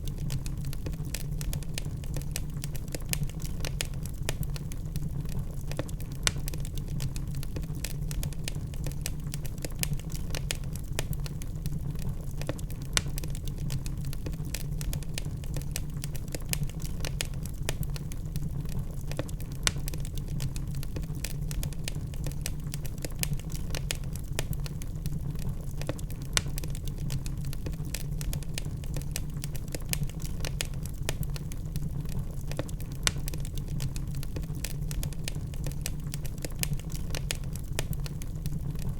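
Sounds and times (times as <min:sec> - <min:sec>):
fire rumbling: 0:00.0 - 0:38.9
logs crackling and popping: 0:00.0 - 0:38.9.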